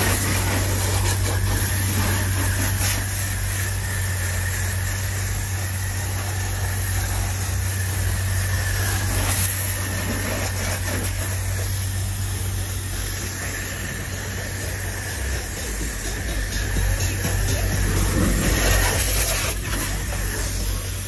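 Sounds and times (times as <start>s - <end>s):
high-pressure water jet hissing: 0.0s - 21.0s
pressure washer motor hum: 0.0s - 21.0s.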